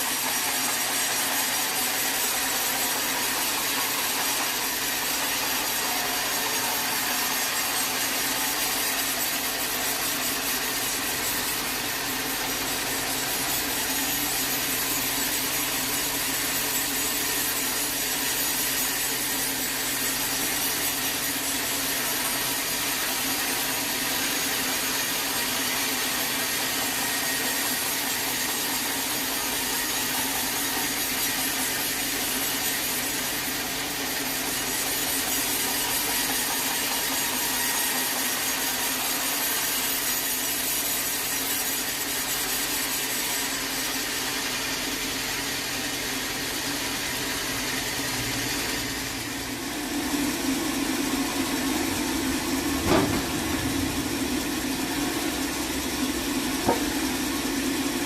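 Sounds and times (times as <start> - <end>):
saw cutting wood: 0.0 - 58.0.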